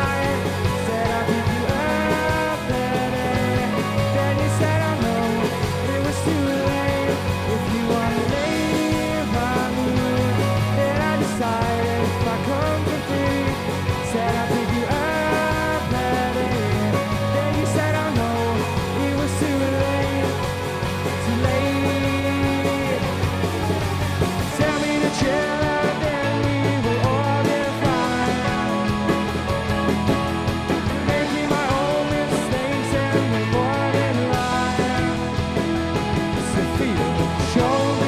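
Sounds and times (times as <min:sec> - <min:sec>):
live indie rock band: 0:00.0 - 0:38.0.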